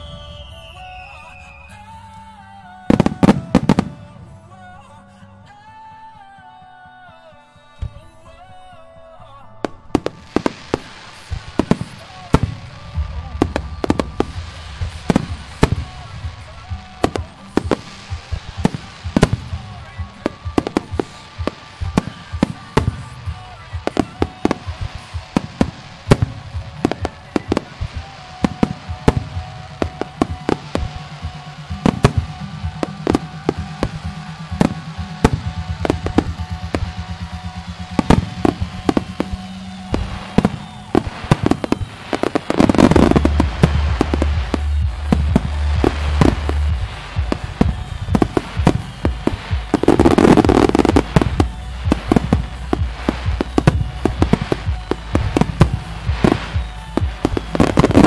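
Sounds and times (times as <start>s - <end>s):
fireworks bursting: 0.0s - 4.8s, 9.6s - 58.0s
music playing: 0.0s - 58.0s.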